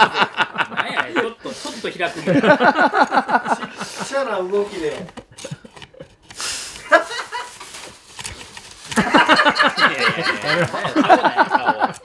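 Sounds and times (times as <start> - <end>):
man laughing and straining: 0.0 - 7.8, 8.9 - 12.0.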